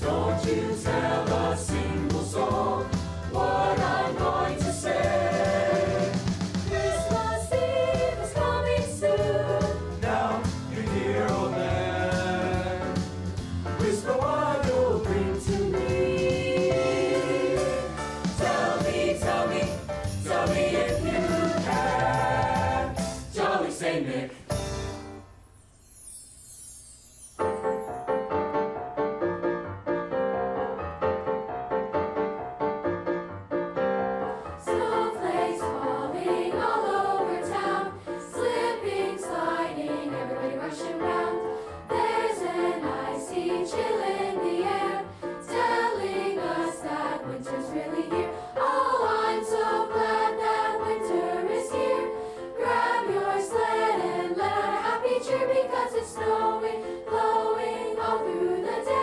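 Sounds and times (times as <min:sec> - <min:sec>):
children's choir singing: 0:00.0 - 0:13.0, 0:13.8 - 0:24.4, 0:34.6 - 0:59.0
piano accompaniment: 0:00.0 - 0:23.8, 0:27.1 - 0:59.0.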